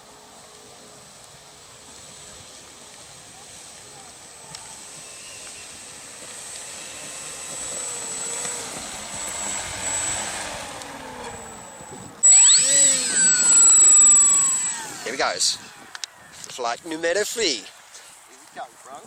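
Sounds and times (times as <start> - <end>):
model aeroplane flying past: 0.0 - 16.1.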